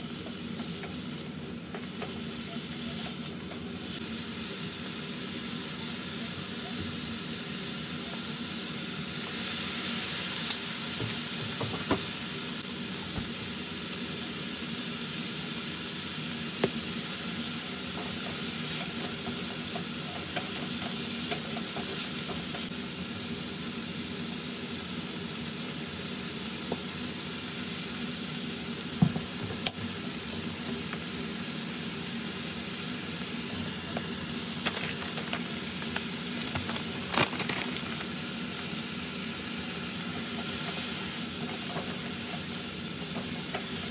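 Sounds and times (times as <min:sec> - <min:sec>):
meat and onions sizzling in a pan: 0:00.0 - 0:43.9.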